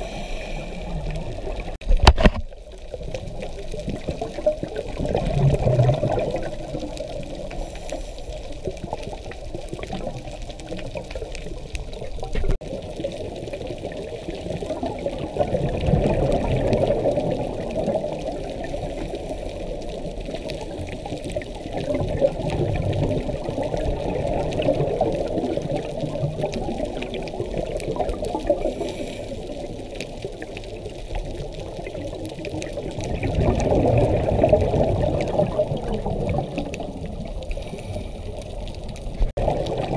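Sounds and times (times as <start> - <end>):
muffled underwater wash: 0.0 - 39.9
regulator bubbles gurgling: 0.0 - 39.9.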